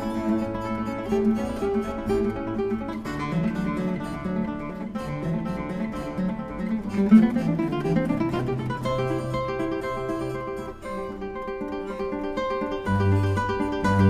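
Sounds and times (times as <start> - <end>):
acoustic guitar tune: 0.0 - 14.0.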